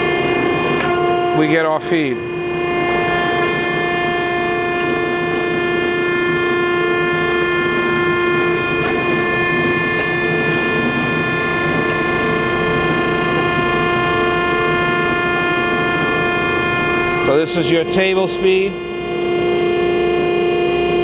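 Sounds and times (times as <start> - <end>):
grinder machine whine and hum: 0.0 - 21.0.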